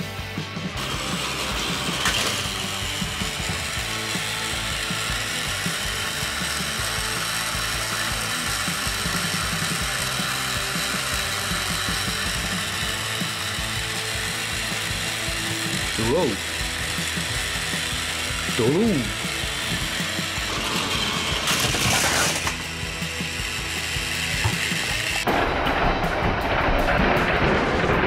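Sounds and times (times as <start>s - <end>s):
toy train motors whirring: 0.8s - 25.3s.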